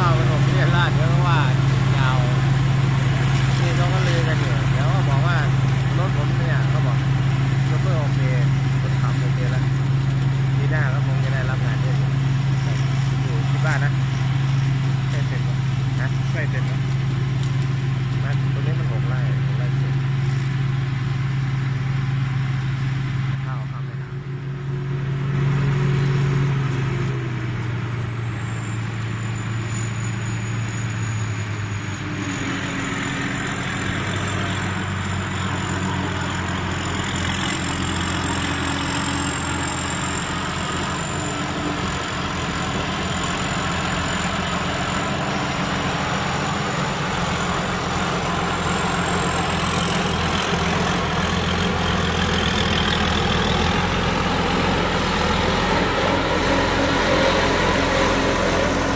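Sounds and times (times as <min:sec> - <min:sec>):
combine harvester running: 0:00.0 - 0:58.9
thin high machine whine: 0:00.0 - 0:58.9.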